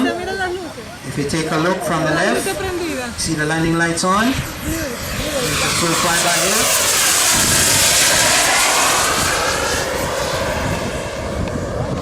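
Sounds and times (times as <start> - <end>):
model jet turbines whining: 0.0 - 12.0.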